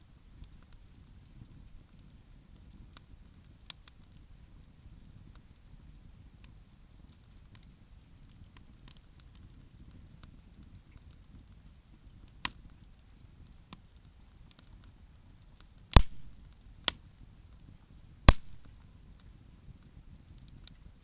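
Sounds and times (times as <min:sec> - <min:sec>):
campfire popping: 0:00.0 - 0:21.0.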